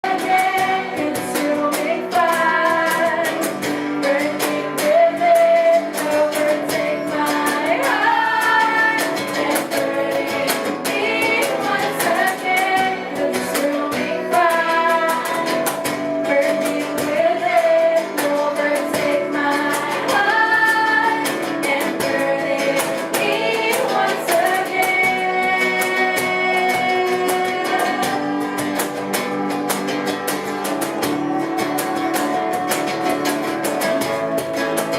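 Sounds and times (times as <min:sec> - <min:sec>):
person singing: 0:00.0 - 0:34.8
plucked guitar: 0:00.0 - 0:34.9.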